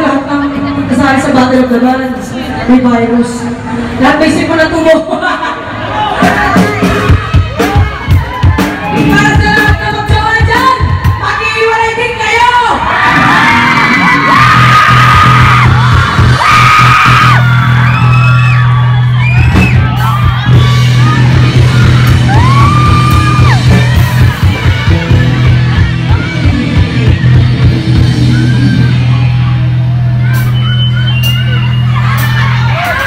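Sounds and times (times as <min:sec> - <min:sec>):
live rock band playing: 0:05.7 - 0:33.0.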